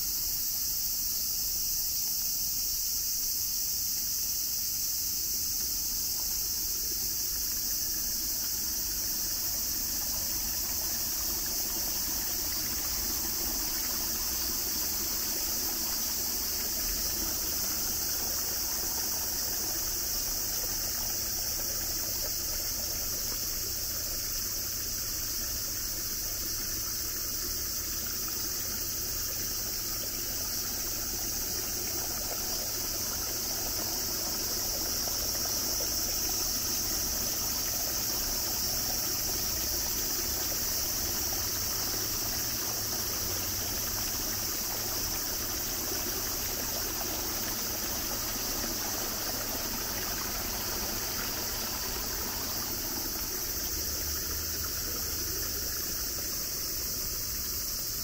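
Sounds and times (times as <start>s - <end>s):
high-pitched insect drone: 0.0s - 58.0s
stream trickling over stones: 0.0s - 58.0s.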